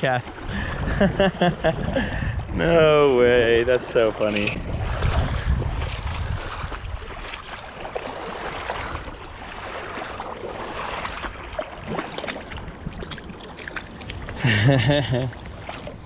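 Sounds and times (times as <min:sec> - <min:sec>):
creek water running and splashing: 0:00.0 - 0:16.0.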